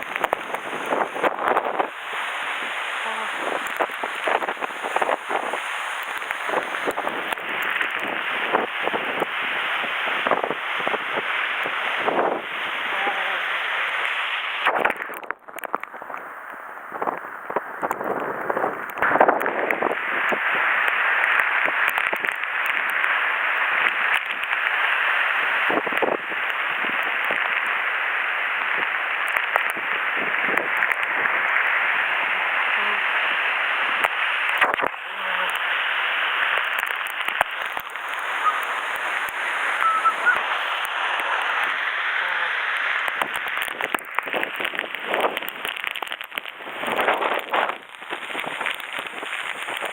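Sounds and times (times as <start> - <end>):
wind and rain on microphone: 0.0 - 49.9.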